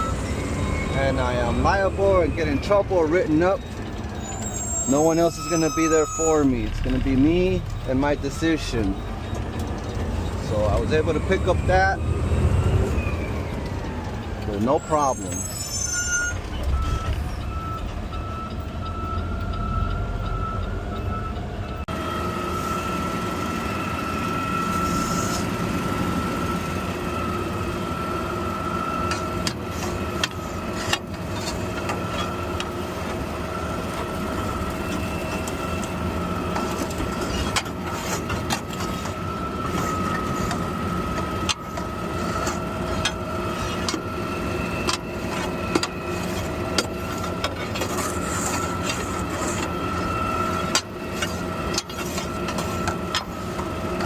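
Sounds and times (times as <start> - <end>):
garbage truck engine whining: 0.0 - 54.0.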